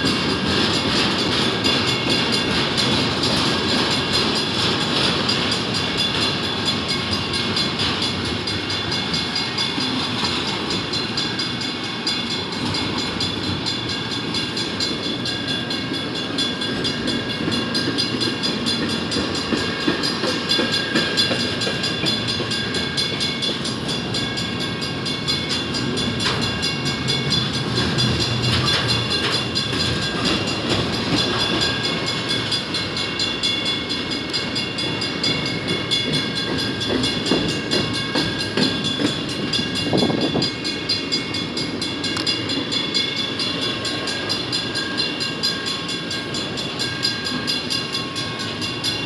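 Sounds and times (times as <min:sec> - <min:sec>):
freight train wheels rumbling: 0:00.0 - 0:49.0.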